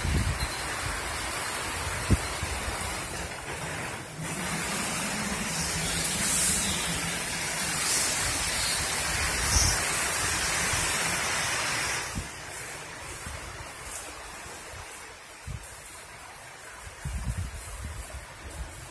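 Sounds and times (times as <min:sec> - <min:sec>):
gusting wind: 0:00.0 - 0:18.9
heavy rain: 0:00.0 - 0:18.9.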